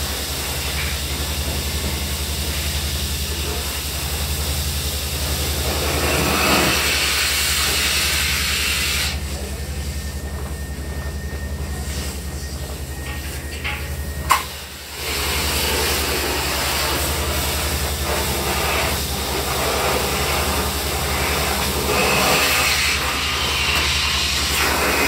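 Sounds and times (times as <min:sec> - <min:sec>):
hiss of air and grit: 0:00.0 - 0:10.3, 0:14.3 - 0:25.0
vacuum machine drone: 0:00.0 - 0:25.0.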